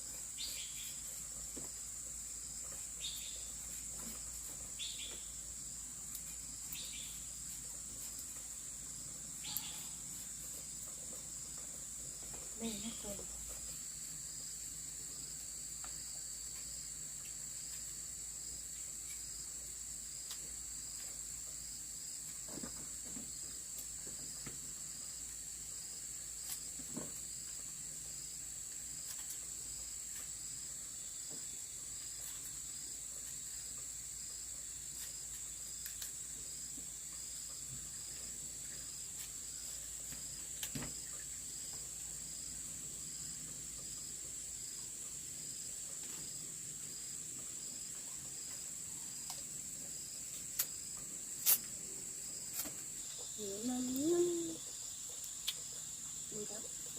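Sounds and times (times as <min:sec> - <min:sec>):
crickets and insects chirping: 0:00.0 - 0:56.9.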